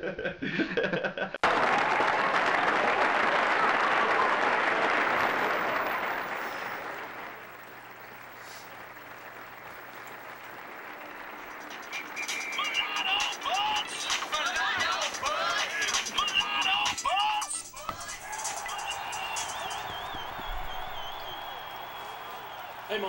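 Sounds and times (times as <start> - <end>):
audience applause: 1.4 - 16.9, 18.0 - 23.0.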